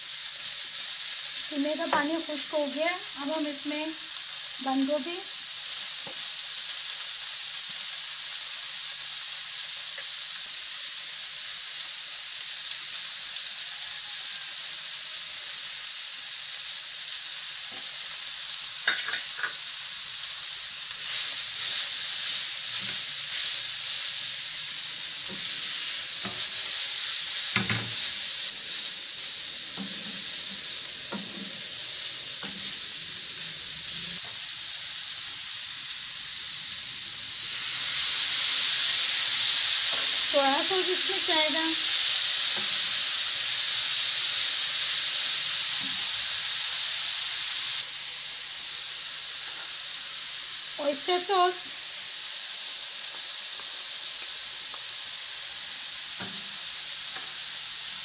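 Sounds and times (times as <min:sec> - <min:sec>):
meat and vegetables sizzling in pan: 0:00.0 - 0:58.0.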